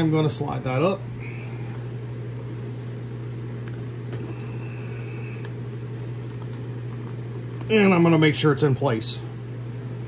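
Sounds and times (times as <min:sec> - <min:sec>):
machinery hum: 0:00.0 - 0:10.0.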